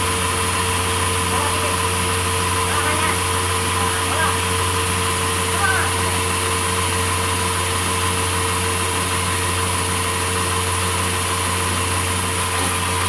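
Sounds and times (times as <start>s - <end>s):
sawmill machinery humming: 0.0s - 13.0s.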